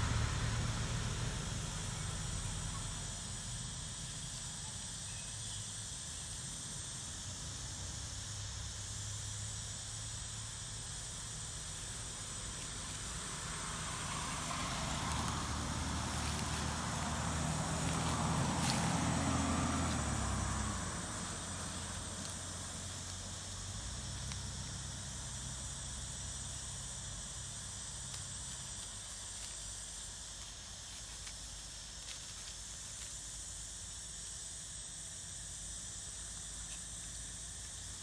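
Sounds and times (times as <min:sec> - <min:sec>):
high insect hum: 0:00.0 - 0:38.0.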